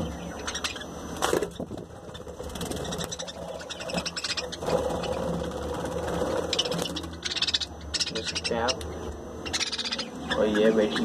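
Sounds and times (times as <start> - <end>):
budgerigars chattering: 0.0 - 5.6, 6.2 - 11.0
steady low hum: 0.0 - 11.0.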